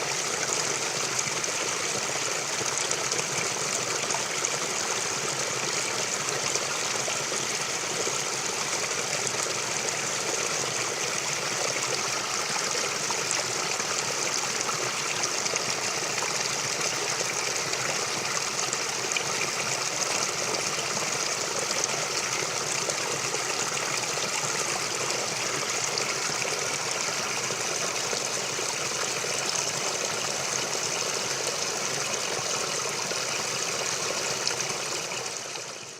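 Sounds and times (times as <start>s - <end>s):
stream flowing: 0.0s - 35.9s.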